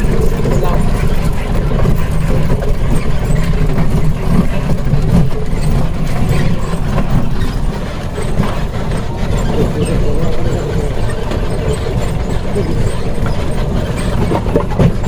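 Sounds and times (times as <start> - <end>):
vehicle driving rumble: 0.0 - 15.0.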